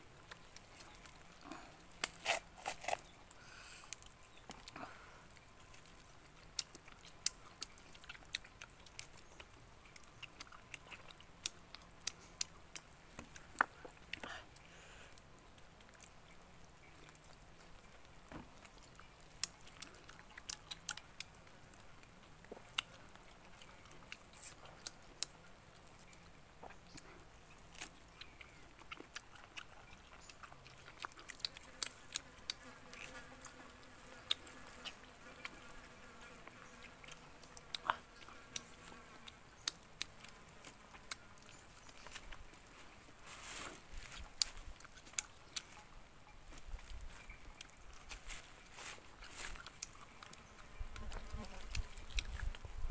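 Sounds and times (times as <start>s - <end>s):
chewing and lip-smacking: 0.0s - 52.9s.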